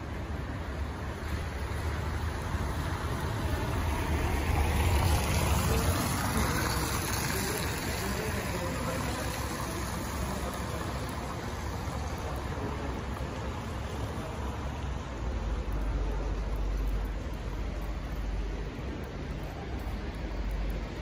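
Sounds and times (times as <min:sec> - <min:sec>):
low traffic rumble: 0:00.0 - 0:21.0
car driving by on wet street: 0:00.8 - 0:19.0.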